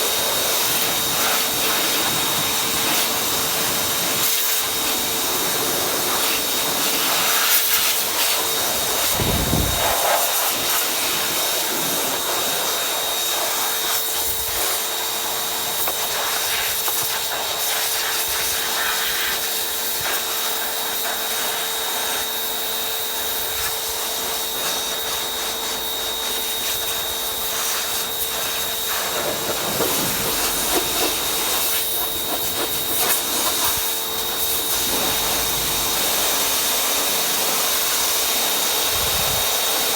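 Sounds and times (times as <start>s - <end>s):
motor and pump whine: 0.0s - 39.9s
pressure washer water spray hiss: 0.0s - 39.9s.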